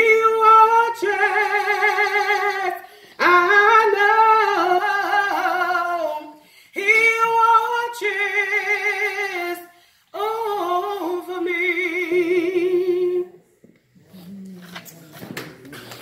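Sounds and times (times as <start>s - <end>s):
woman singing unaccompanied: 0.0s - 13.4s.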